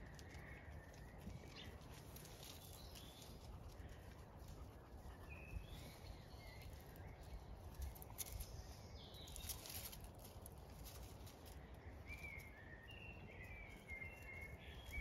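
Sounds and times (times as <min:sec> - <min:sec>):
soft rustles: 0:00.0 - 0:12.6
low rumble of wind: 0:00.0 - 0:15.0.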